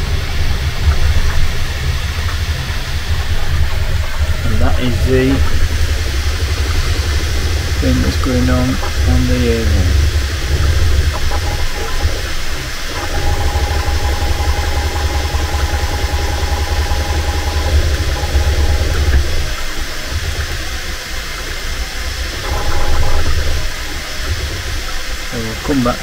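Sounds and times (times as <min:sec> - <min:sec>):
thin high whine: 0:00.0 - 0:26.0
printer whir and hum: 0:02.3 - 0:20.9, 0:22.3 - 0:26.0.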